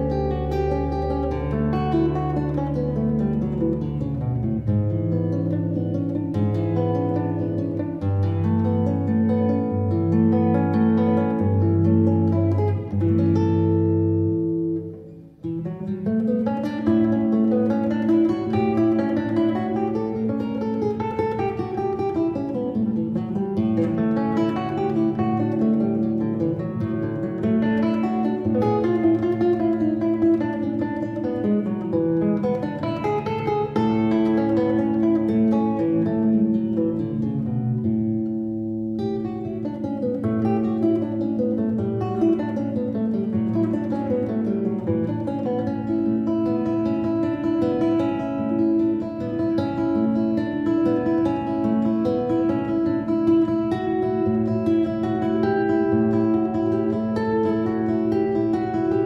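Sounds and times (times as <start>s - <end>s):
classical acoustic guitar: 0.0s - 59.0s.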